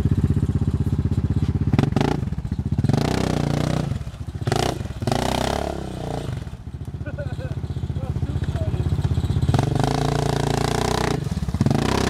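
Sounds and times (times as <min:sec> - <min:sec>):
atv engine running and revving: 0:00.0 - 0:12.0
tyres churning through mud: 0:00.0 - 0:12.0.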